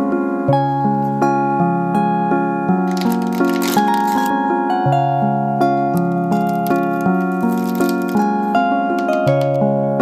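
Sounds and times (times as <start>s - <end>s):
soft plucked background music: 0.0s - 10.0s.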